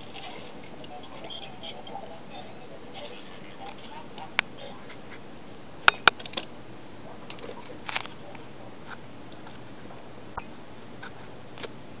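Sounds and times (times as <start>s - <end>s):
faint clicks and crackles: 0.0s - 11.8s
steady hiss: 0.0s - 12.0s.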